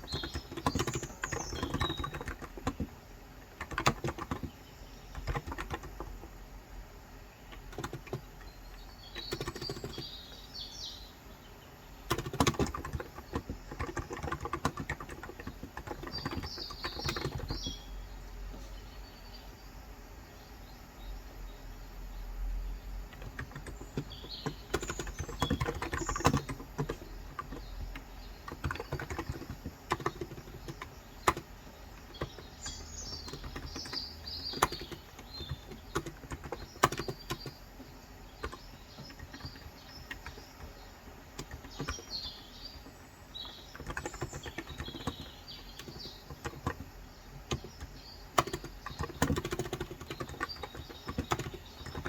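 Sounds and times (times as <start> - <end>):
keyboard typing: 0.0 - 6.4, 7.5 - 10.6, 12.0 - 17.9, 23.0 - 52.0
small birds chirping: 0.0 - 52.0.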